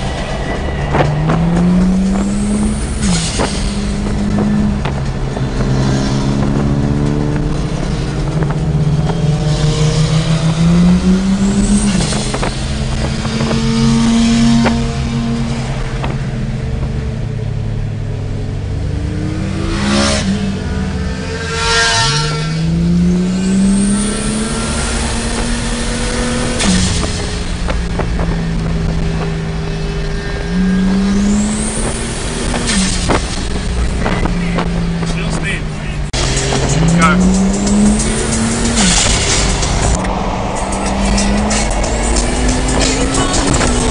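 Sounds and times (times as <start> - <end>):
car engine accelerating hard: 0.0 - 43.9.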